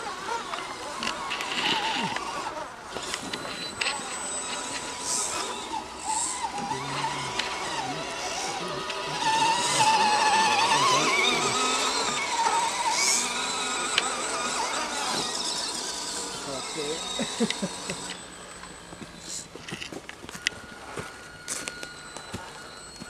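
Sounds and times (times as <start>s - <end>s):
toy car electric motor whining: 0.0s - 23.0s.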